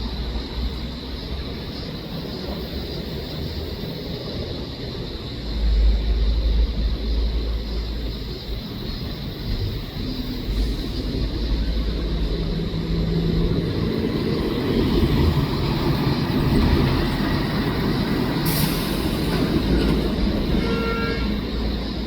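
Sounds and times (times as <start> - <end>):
low rumble of motor traffic: 0.0 - 22.0.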